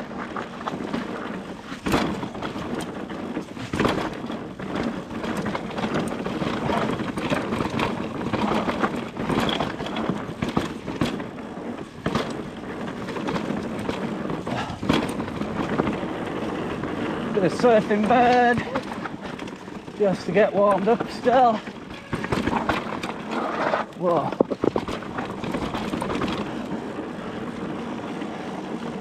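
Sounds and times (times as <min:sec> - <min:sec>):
bike tyre and rattle noise: 0:00.0 - 0:29.0.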